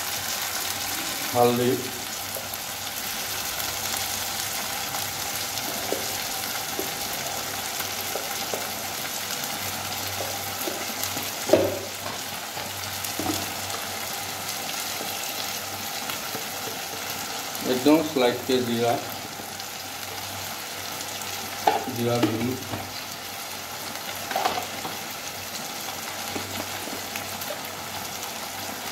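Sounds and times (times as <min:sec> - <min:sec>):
food sizzling in hot oil: 0:00.0 - 0:28.9.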